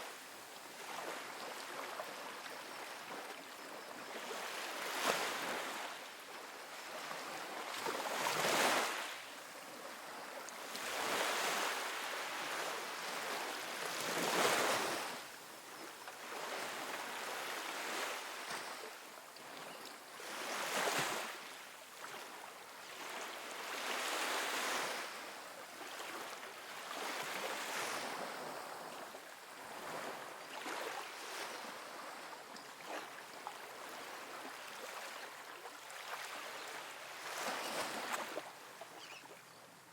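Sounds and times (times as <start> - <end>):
ocean waves breaking on beach: 0.0 - 39.2.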